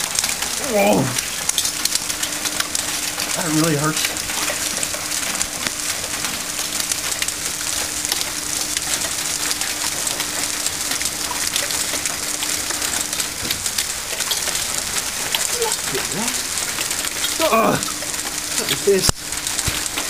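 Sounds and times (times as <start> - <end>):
heavy hail clattering: 0.0 - 20.0.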